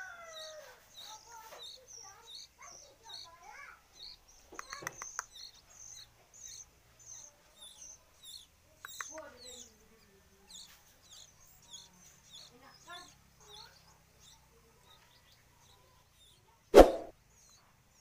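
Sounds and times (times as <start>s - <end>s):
baby birds begging chirps: 0.0s - 18.0s.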